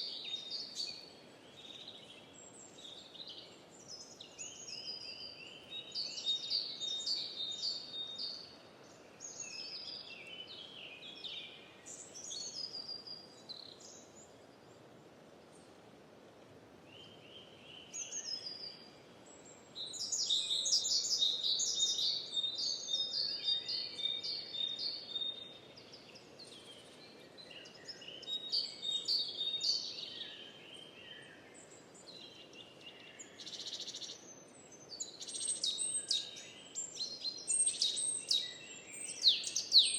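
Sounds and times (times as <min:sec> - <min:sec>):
faint steady hiss: 0:00.0 - 0:39.9
songbirds chirping and trilling: 0:00.0 - 0:39.9.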